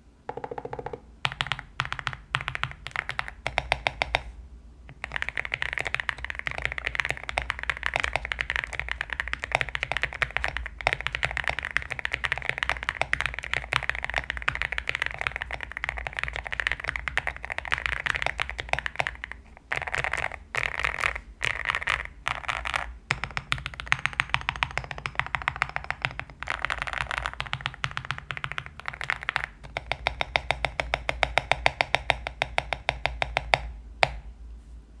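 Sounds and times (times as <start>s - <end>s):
mechanical keyboard typing: 0.3s - 4.3s, 4.9s - 34.2s.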